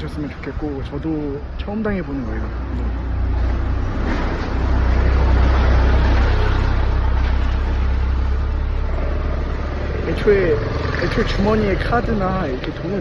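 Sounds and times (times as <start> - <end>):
road traffic rumbling: 0.0 - 13.0
vehicle passing close: 2.4 - 13.0.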